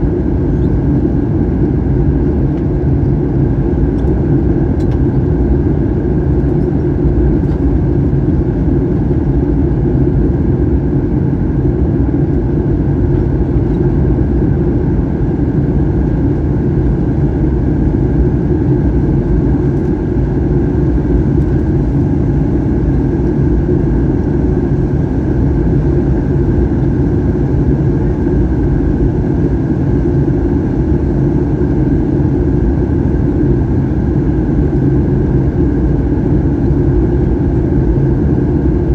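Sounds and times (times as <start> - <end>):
jet engines droning: 0.0 - 38.9.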